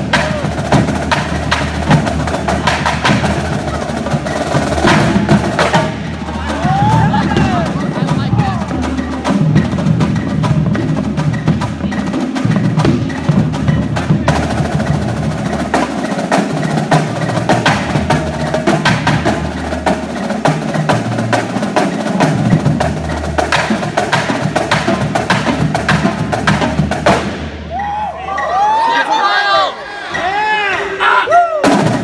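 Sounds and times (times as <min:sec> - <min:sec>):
snare and tenor drums playing: 0:00.0 - 0:28.4, 0:31.6 - 0:32.0.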